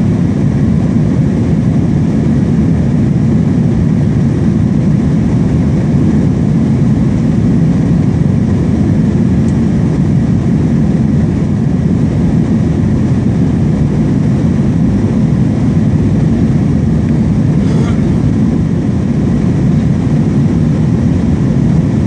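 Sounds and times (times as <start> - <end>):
jet engine cabin rumble: 0.0 - 22.0.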